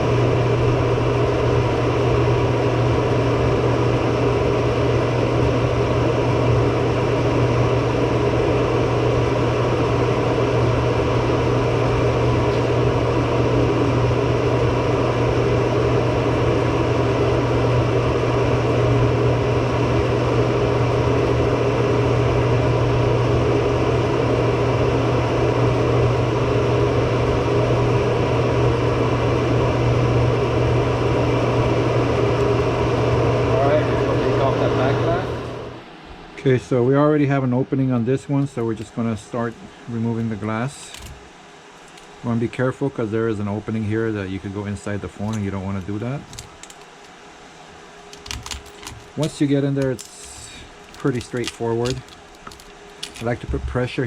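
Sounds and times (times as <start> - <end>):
mechanical hum with low drone: 0.0 - 54.0.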